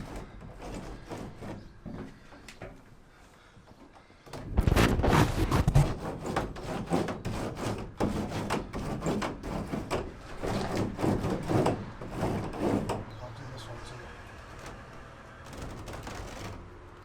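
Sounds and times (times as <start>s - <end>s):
mat rubbing and crackling on metal: 0.0s - 17.0s.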